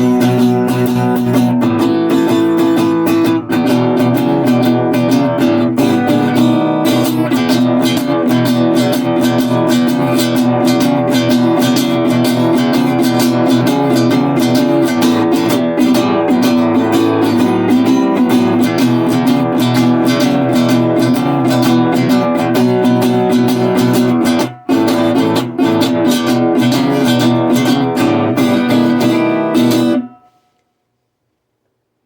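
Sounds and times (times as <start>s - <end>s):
resonator guitar picked notes: 0.0s - 30.4s.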